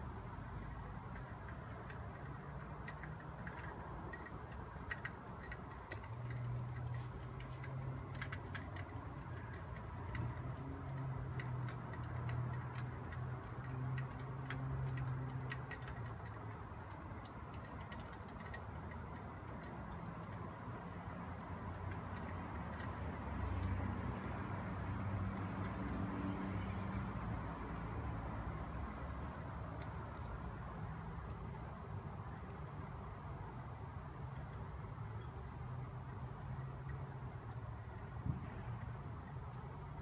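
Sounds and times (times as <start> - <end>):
light ticks of flakes and drips: 0.0 - 40.0.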